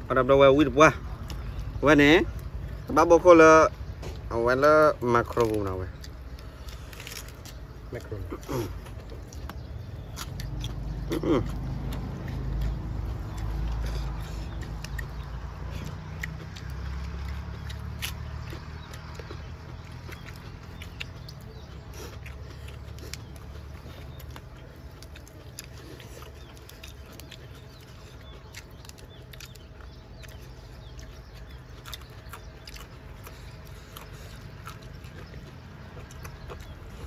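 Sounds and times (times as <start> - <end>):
people chewing food: 0.0 - 37.0.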